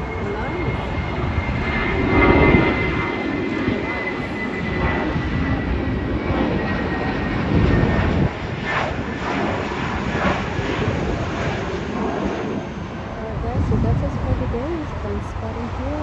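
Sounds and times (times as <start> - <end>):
jet airliner engine rumble: 0.0 - 16.0.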